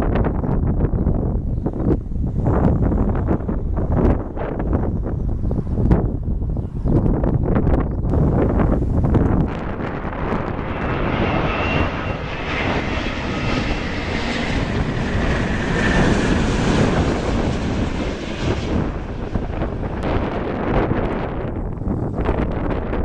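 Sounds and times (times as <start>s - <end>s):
jet engines rushing: 0.0s - 23.0s.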